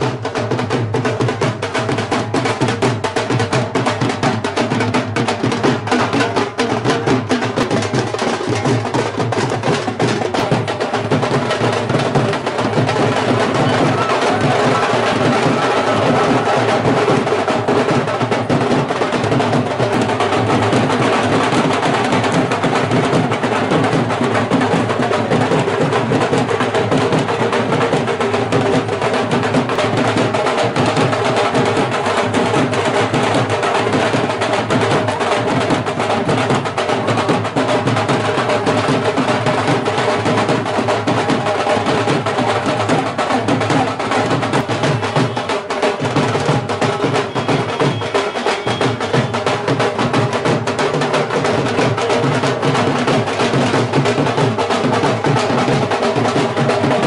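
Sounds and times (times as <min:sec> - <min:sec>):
drums beating fast rhythm: 0:00.0 - 0:57.0.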